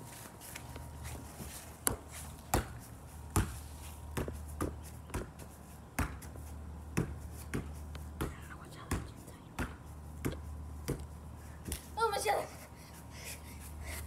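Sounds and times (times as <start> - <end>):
foot kicking soccer ball: 0.0 - 12.0.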